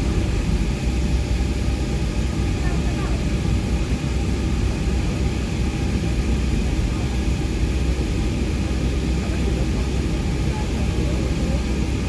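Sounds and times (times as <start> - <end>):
airplane cabin rumble and hiss: 0.0 - 12.0.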